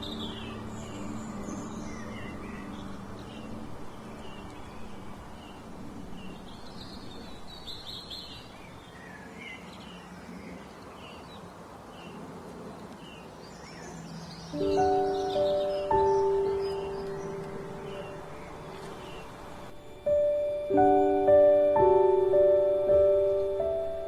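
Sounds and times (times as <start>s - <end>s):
small birds chirping: 0.0s - 24.0s
steady outdoor hiss: 0.0s - 24.0s.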